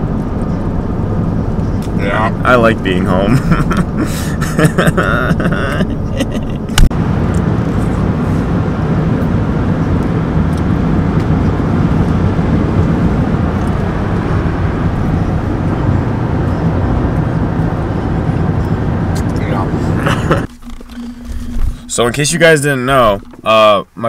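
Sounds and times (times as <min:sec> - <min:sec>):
vehicle cabin road noise: 0:00.0 - 0:24.0.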